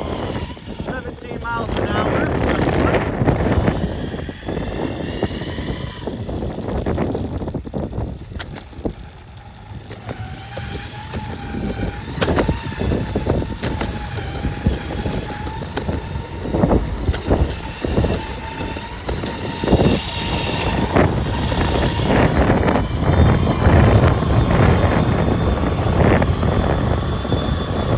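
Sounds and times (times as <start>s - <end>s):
electric motor whine: 0.0s - 27.9s
wheels rumbling on ground: 0.0s - 27.9s
wind on microphone: 0.0s - 27.9s.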